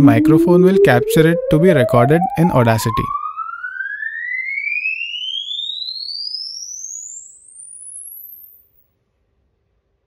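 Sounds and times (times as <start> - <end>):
rising sine sweep tone: 0.0 - 8.8.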